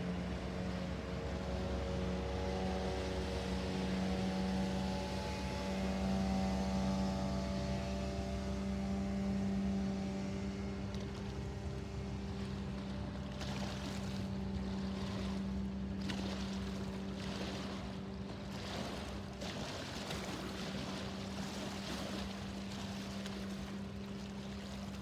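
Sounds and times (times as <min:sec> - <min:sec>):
diesel ship engine droning: 0:00.0 - 0:25.0.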